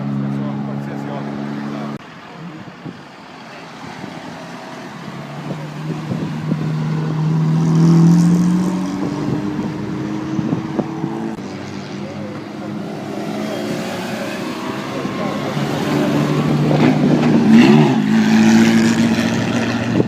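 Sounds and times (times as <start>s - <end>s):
car engine passing by: 3.7s - 20.0s.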